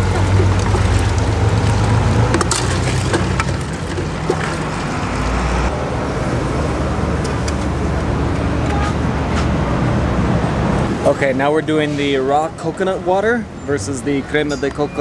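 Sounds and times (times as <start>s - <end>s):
engine rumble: 0.0s - 15.0s
street hum: 0.0s - 15.0s.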